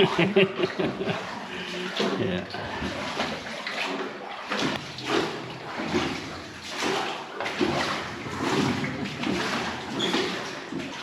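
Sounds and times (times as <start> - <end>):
oars splashing in water: 0.0 - 11.0.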